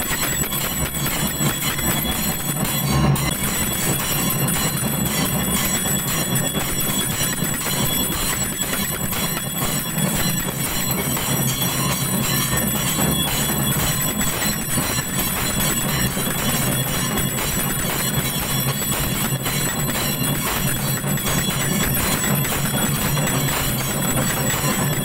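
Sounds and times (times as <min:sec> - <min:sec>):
bells clanging rapidly: 0:00.0 - 0:25.0.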